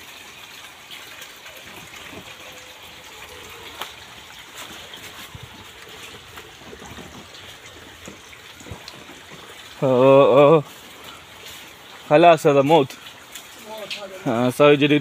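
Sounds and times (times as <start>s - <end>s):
meltwater trickling and dripping: 0.0s - 15.0s.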